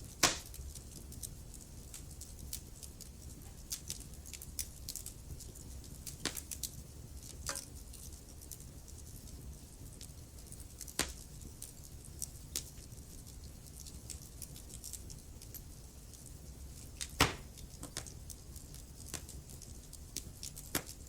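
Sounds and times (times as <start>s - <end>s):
fire crackles and pops: 0.0s - 21.0s
wood fire burning: 0.0s - 21.0s.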